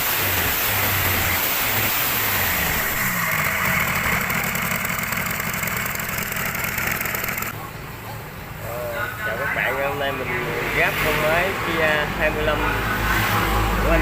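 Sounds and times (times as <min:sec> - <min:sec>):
engine idling and revving: 0:00.0 - 0:07.6, 0:10.3 - 0:14.0.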